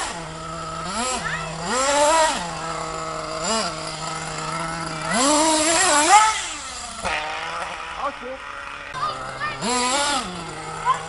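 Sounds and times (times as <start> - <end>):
small engine idling and revving: 0.0 - 11.0.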